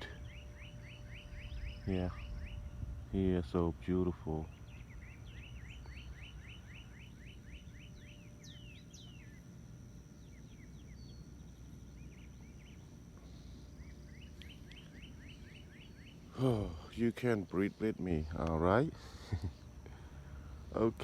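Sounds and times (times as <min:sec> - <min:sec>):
distant songbirds chirping: 0:00.0 - 0:21.0.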